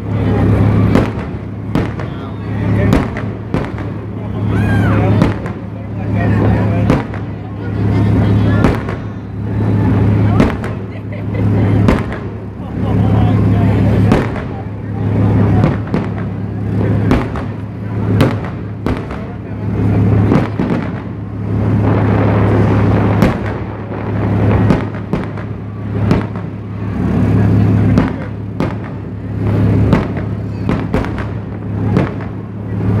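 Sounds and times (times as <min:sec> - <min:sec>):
fireworks bangs: 0:00.0 - 0:33.0.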